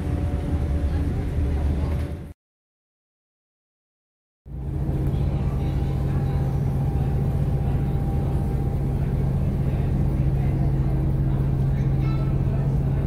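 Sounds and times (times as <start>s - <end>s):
ferry engines droning: 0.0s - 2.3s, 4.5s - 13.0s.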